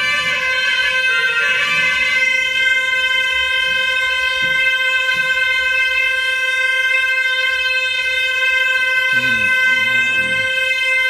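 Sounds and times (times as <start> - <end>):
shawm holding a long note: 0.0 - 11.0.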